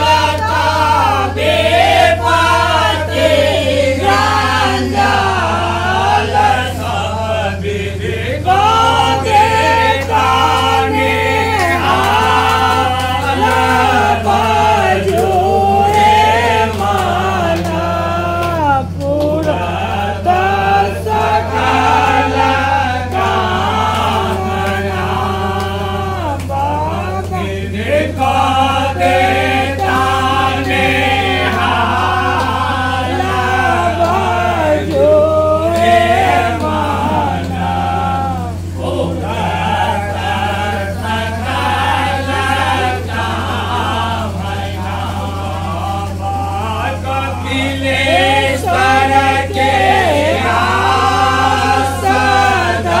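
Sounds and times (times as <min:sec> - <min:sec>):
steady low hum: 0:00.0 - 0:53.0
voices singing devotional song: 0:00.0 - 0:53.0.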